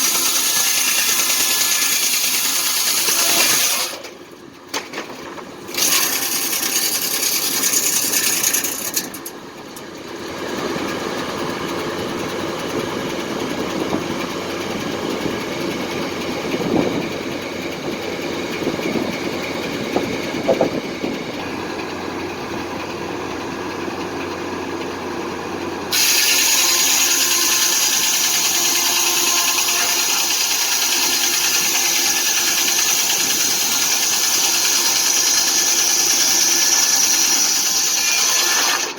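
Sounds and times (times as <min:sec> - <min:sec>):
circular sawmill running: 0:00.0 - 0:38.9.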